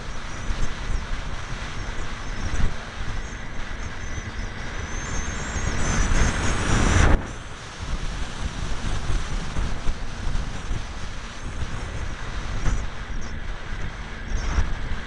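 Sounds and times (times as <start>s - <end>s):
electric motor and propeller whine: 0.0s - 15.0s
wind buffeting camera: 0.0s - 15.0s.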